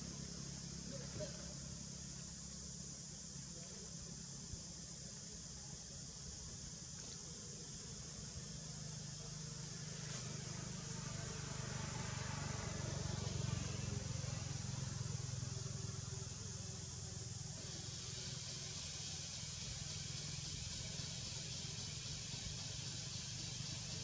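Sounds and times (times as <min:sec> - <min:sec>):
high hiss: 0:00.0 - 0:24.0.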